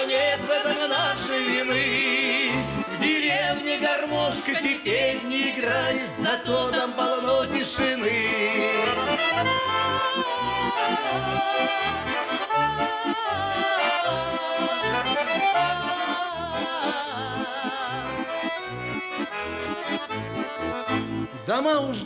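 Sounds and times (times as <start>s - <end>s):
accordion folk melody: 0.0s - 22.0s.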